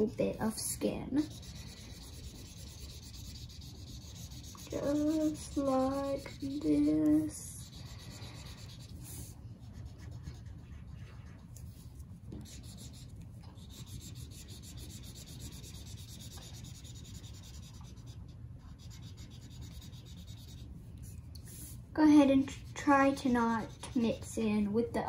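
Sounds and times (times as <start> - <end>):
marker rubbing on paper: 1.2 - 20.7, 22.5 - 24.3.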